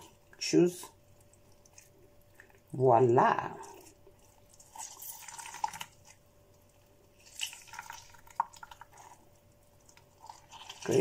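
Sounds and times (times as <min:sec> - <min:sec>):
juice dripping and splashing: 0:00.0 - 0:11.0.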